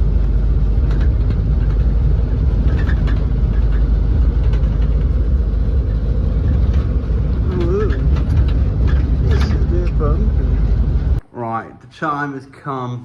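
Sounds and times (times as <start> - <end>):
car engine and road noise: 0.0 - 11.2.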